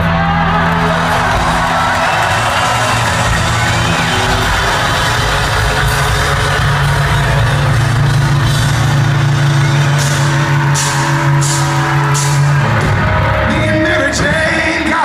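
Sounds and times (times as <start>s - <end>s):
crowd noise and voices: 0.0s - 15.0s.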